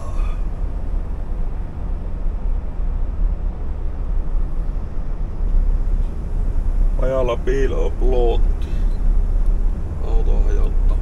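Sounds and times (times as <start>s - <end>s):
diesel truck engine drone: 0.0s - 11.0s.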